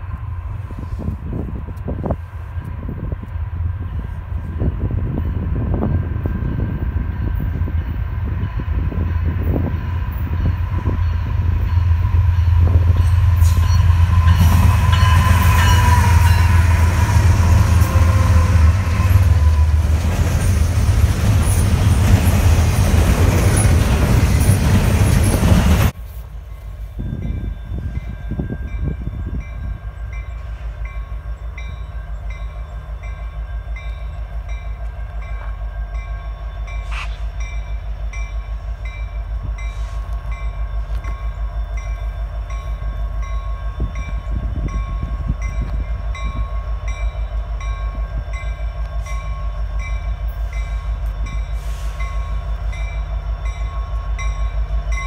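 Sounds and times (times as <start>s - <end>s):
container train rolling past: 0.0s - 55.0s
diesel locomotive engine rumble: 0.0s - 55.0s
distant locomotives rumbling: 0.0s - 55.0s.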